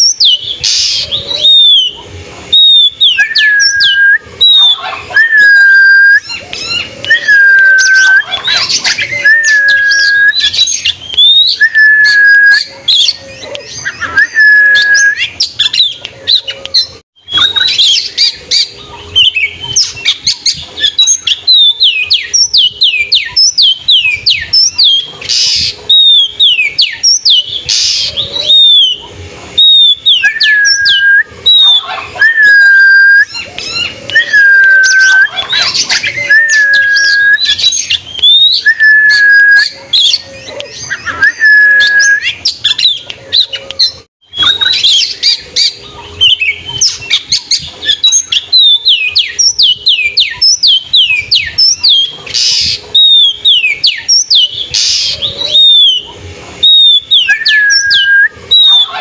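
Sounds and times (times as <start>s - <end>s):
songbird singing whistles: 0.0s - 29.0s, 29.6s - 59.0s
harsh scratchy bird calls: 0.0s - 59.0s.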